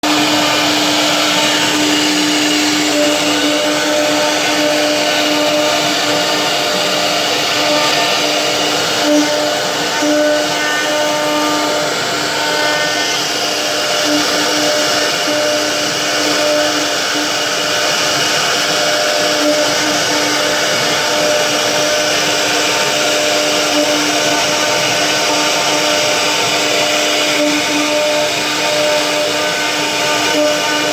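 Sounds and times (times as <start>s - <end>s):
machine motor whine: 0.0s - 30.9s
loud hiss: 0.1s - 30.9s.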